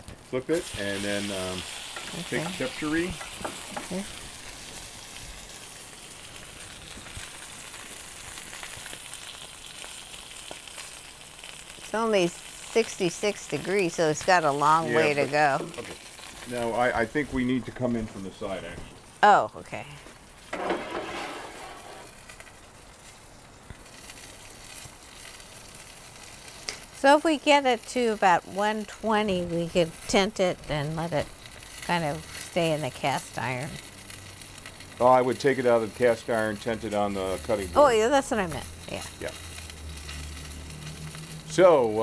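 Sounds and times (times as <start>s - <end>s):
steak sizzling in a pan: 0.0s - 19.4s, 20.1s - 42.0s
faint crackles: 0.0s - 42.0s.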